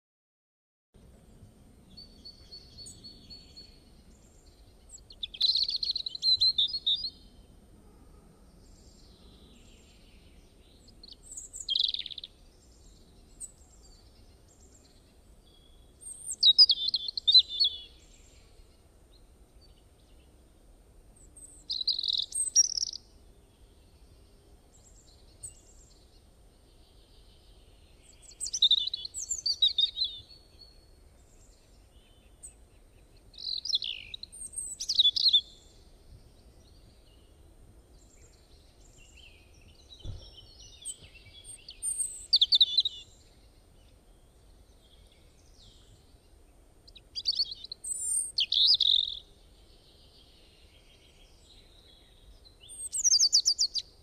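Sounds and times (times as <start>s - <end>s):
faint low hiss: 1.0s - 54.0s
songbird chirping: 1.0s - 54.0s.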